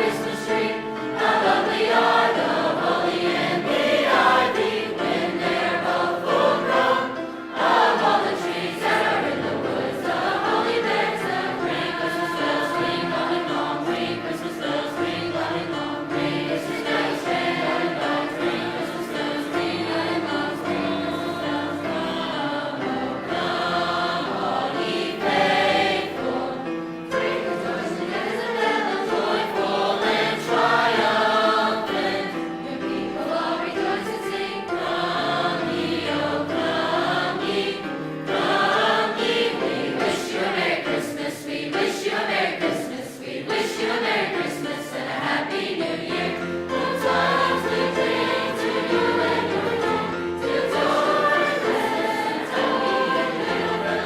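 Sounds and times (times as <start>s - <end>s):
choir singing: 0.0s - 54.0s
musical accompaniment: 0.0s - 54.0s.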